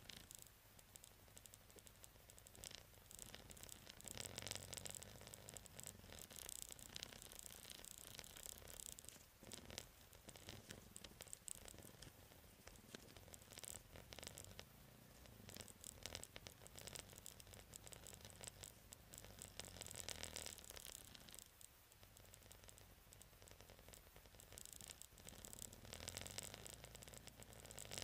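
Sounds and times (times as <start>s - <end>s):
scratching against microphone: 0.0s - 28.0s.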